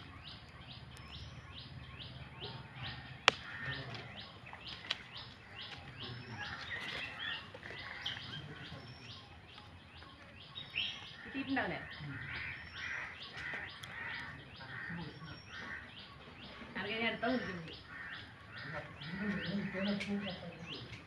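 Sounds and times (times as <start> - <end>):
small bird calling: 0.0 - 21.0.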